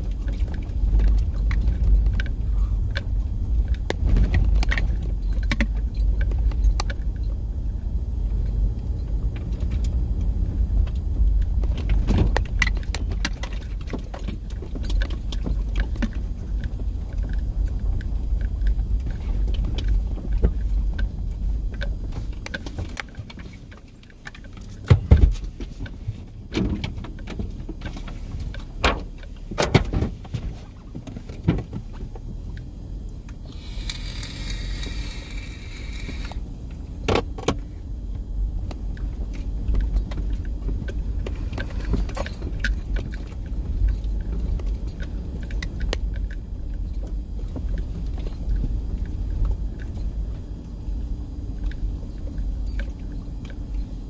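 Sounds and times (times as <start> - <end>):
vehicle road rumble: 0.0 - 54.0.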